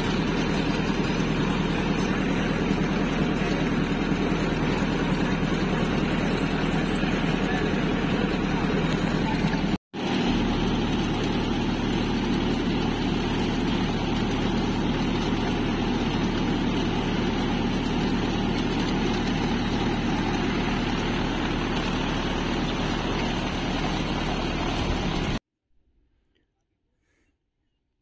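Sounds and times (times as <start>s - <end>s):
engine humming: 0.0s - 25.4s
planter mechanism rattling: 0.0s - 25.4s.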